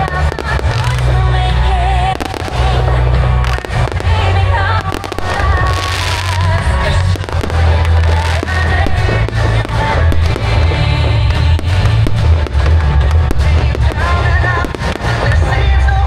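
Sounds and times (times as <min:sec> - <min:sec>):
deep firework booms: 0:00.0 - 0:15.6
fireworks bangs and crackles: 0:00.0 - 0:16.0
loud music: 0:00.0 - 0:16.0.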